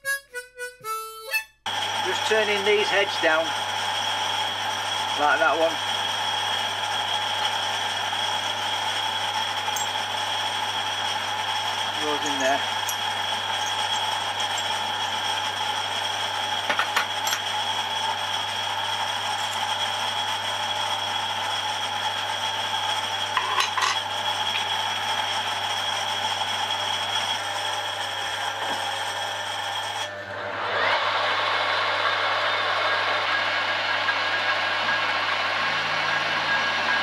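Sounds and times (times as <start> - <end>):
workshop hum: 0.0 - 37.0
lathe starting up: 1.7 - 37.0.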